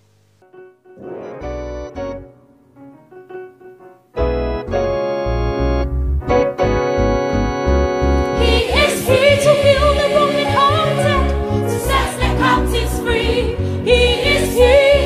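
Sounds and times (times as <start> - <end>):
organ-style keyboard chords: 0.3 - 15.0.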